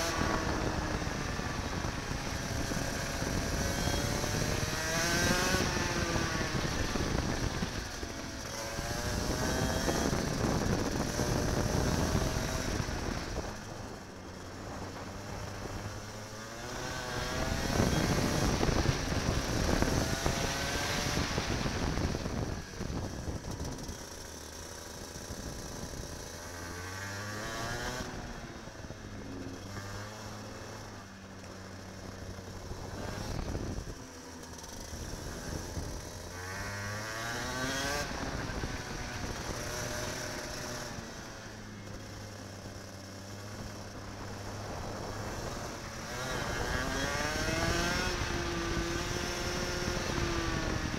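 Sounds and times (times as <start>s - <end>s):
kart engine revving: 0.0s - 50.9s.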